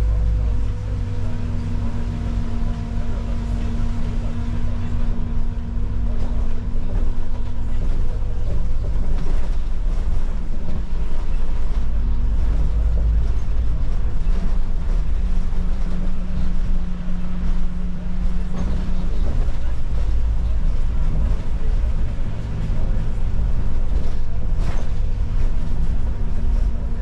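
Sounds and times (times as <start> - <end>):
bus drivetrain hum: 0.0 - 27.0
road rumble: 0.0 - 27.0.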